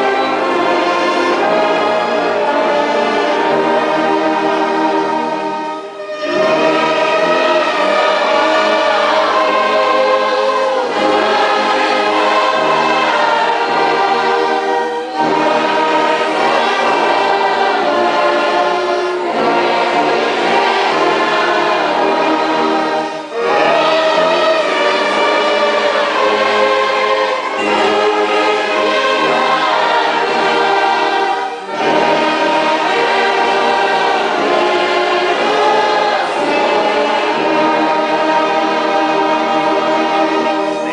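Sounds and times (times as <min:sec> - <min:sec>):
congregation singing a hymn: 0:00.0 - 0:40.9
orchestra playing: 0:00.0 - 0:40.9.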